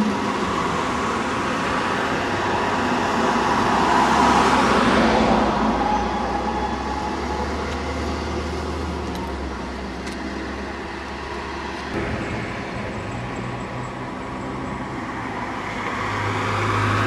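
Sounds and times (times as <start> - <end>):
bus engine pulling away: 0.0 - 17.0
road traffic noise: 0.0 - 17.0.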